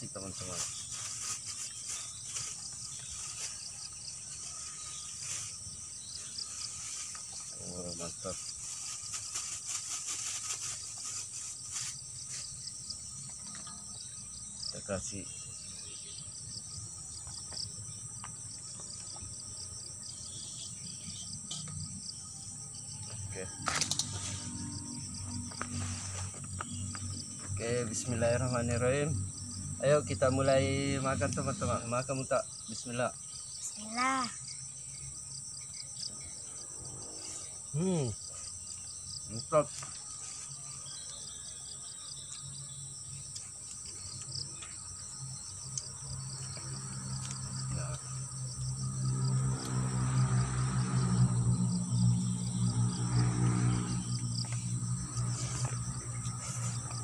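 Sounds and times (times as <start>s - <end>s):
insects droning and chirping: 0.0s - 57.0s.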